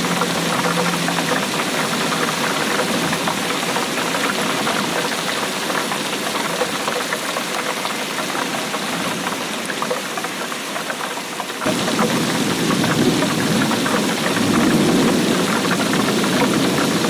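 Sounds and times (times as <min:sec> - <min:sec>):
heavy rainfall: 0:00.0 - 0:17.0.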